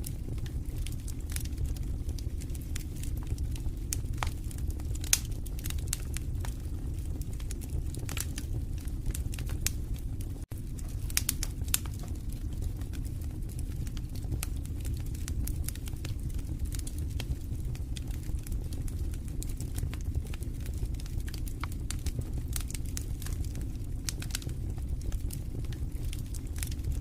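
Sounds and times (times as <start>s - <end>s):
fire crackling and popping: 0.0s - 27.0s
fire flames rumbling: 0.0s - 27.0s.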